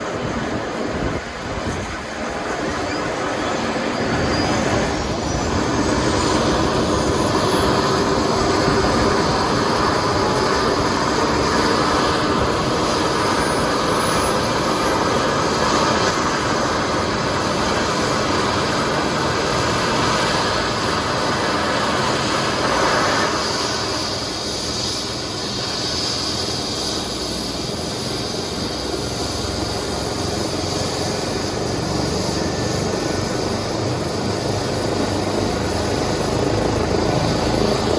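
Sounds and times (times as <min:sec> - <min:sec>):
helicopter rotor and turbine: 0:00.0 - 0:37.9.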